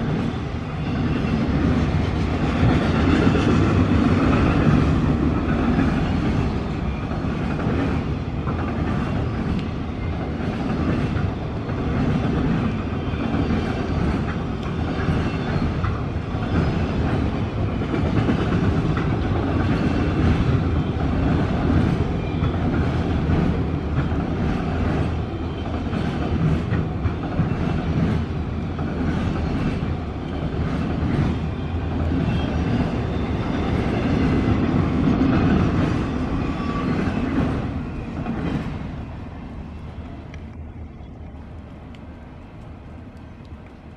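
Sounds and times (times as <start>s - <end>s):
freight train wheels rumbling on rail: 0.0s - 43.9s.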